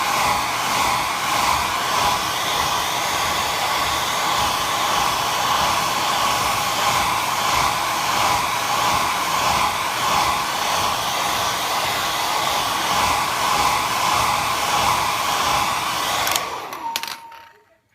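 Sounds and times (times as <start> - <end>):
hair dryer running: 0.0 - 17.6.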